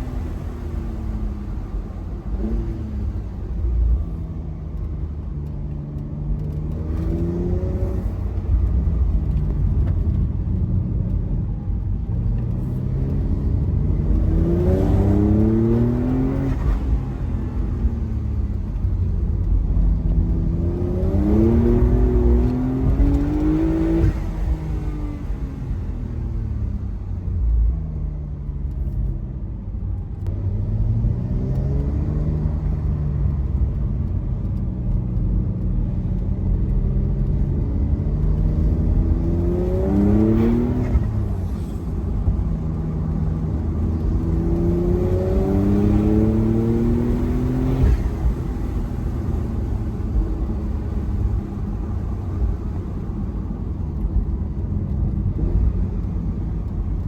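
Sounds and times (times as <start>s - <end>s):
car engine accelerating through gears: 0.0s - 57.0s.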